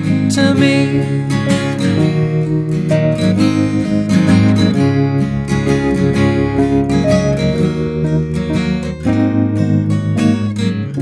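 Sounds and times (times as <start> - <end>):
strummed acoustic guitar chords: 0.0 - 11.0.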